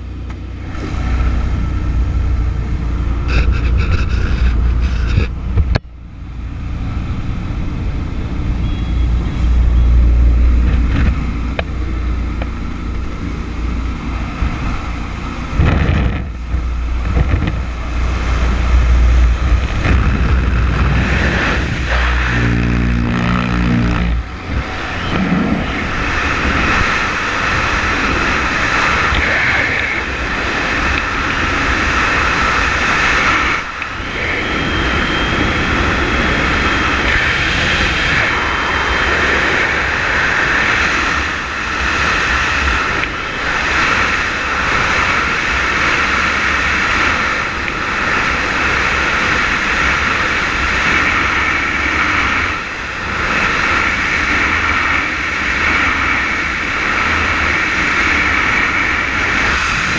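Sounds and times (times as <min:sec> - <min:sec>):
aircraft engine: 0:00.0 - 0:59.9
rushing wind: 0:00.0 - 0:59.9.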